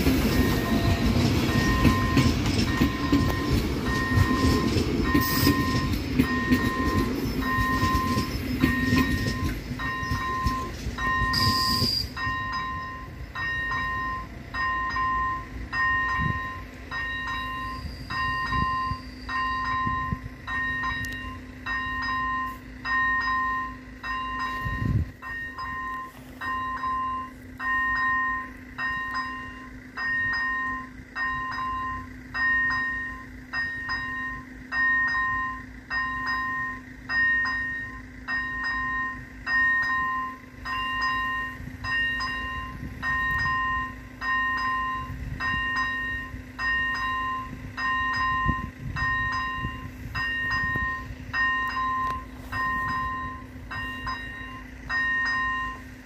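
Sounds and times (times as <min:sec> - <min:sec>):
level crossing bell dinging: 0:00.4 - 0:56.0.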